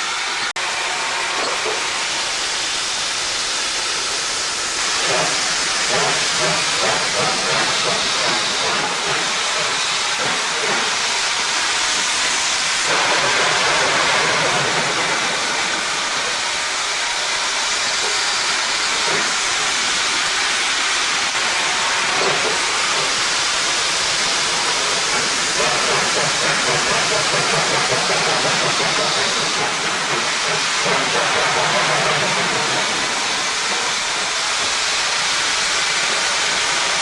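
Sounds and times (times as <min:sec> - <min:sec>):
steam hissing: 0:00.0 - 0:37.0.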